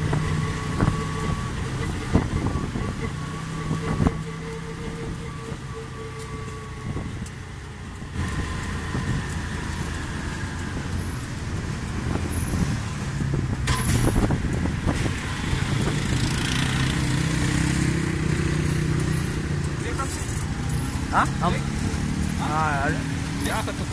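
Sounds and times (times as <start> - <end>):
auto-rickshaw engine running: 0.0 - 23.9
road noise: 0.0 - 23.9.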